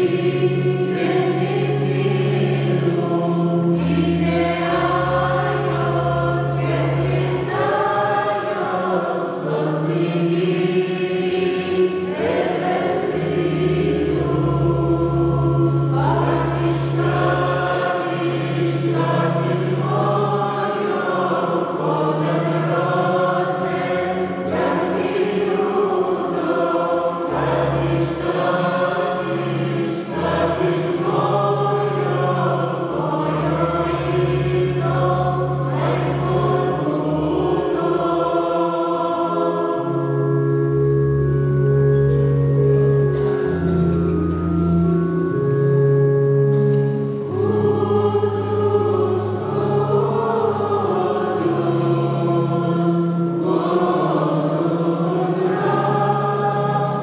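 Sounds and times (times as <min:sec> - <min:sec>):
choir singing a carol: 0:00.0 - 0:57.0
electronic keyboard bass notes: 0:00.0 - 0:57.0.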